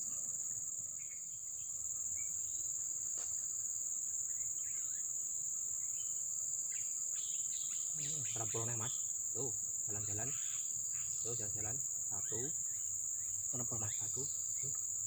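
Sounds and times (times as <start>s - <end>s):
forest insects buzzing: 0.0s - 15.0s.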